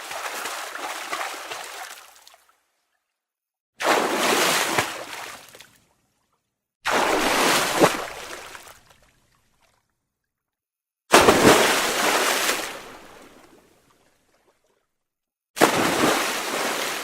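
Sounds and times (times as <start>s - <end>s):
water splashing and sloshing: 0.0s - 3.2s, 3.8s - 10.4s, 11.1s - 14.9s, 15.6s - 17.0s.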